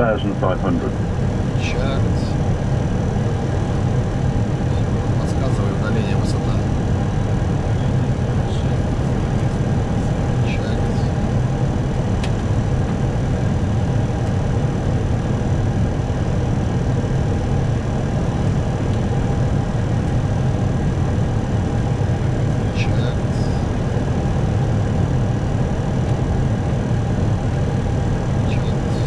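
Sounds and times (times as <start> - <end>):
aircraft cockpit airflow and engines: 0.0 - 29.0.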